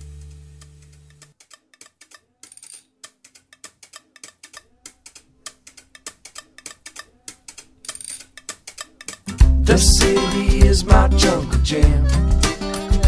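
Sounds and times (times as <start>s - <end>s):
fast clock-like ticking: 0.6s - 12.5s.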